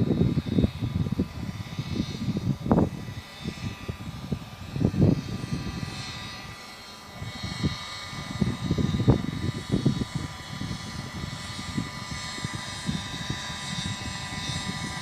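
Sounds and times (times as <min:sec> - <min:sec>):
model helicopter engine drone: 0:00.0 - 0:15.0
wind buffeting microphone: 0:00.0 - 0:15.0.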